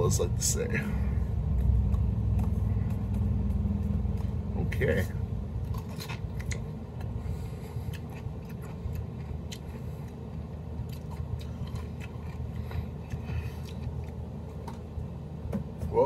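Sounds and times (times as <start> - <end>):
steady low hum: 0.0 - 16.0
man chewing crunchy pickle: 1.0 - 15.4.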